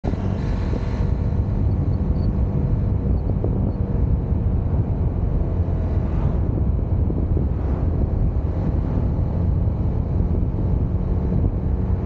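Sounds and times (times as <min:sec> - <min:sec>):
motorcycle engine cruising: 0:00.0 - 0:12.0
wind buffeting microphone: 0:00.0 - 0:12.0.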